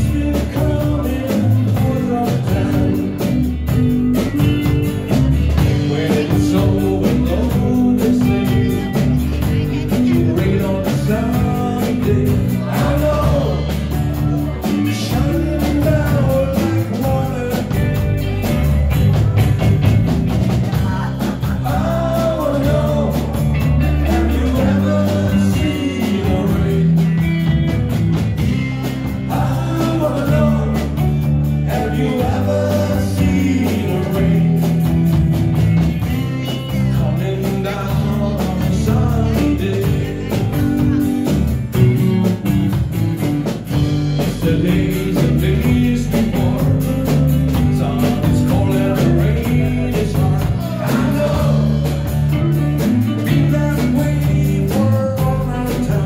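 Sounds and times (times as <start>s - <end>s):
man singing into a microphone: 0.0s - 19.6s, 20.6s - 27.6s, 28.4s - 35.2s, 36.0s - 42.7s, 44.2s - 56.0s
drum kit: 0.0s - 56.0s
electric bass: 0.0s - 56.0s
electric guitar: 0.0s - 56.0s.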